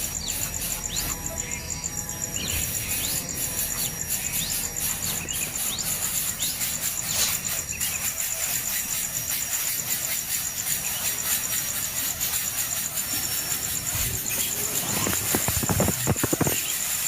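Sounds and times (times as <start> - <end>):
high pulsing insect trill: 0.0 - 17.0
nestling birds begging chirps: 0.0 - 17.0.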